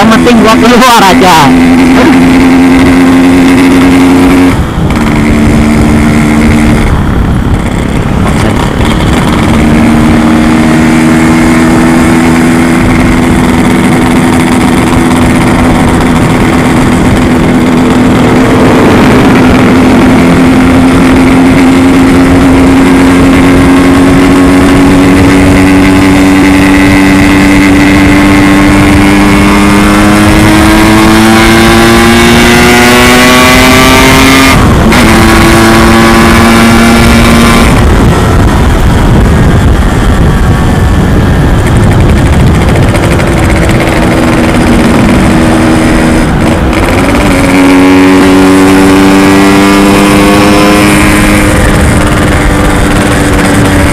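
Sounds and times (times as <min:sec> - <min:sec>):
two-stroke motorcycle engine: 0:00.0 - 0:53.9.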